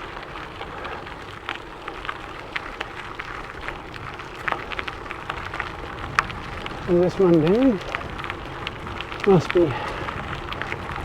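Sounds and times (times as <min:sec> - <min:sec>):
bike tyres rolling over gravel: 0:00.0 - 0:11.0.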